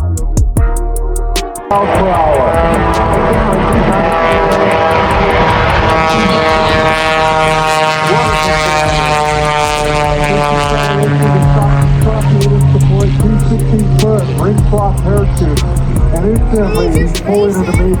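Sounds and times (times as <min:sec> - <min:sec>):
propeller airplane engine droning: 0:01.7 - 0:18.0.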